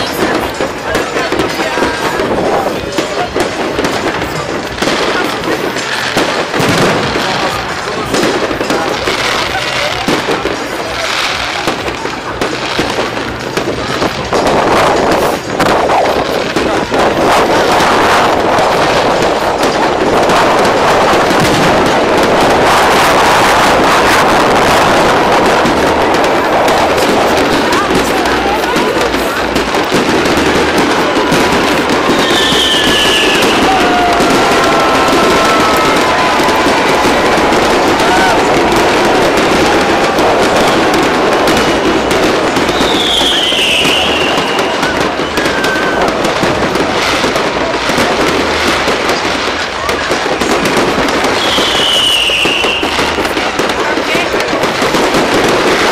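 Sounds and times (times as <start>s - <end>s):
fireworks crackling pops and bangs: 0.0s - 55.9s.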